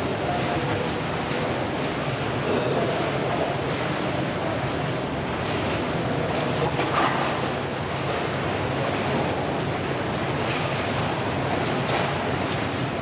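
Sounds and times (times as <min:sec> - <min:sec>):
faint splashes: 0:00.0 - 0:13.0
steady water noise: 0:00.0 - 0:13.0.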